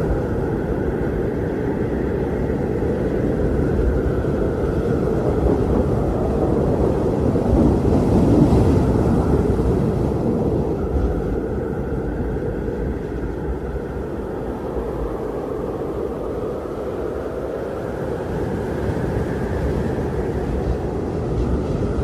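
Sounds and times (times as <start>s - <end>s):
strong wind blowing: 0.0s - 22.0s.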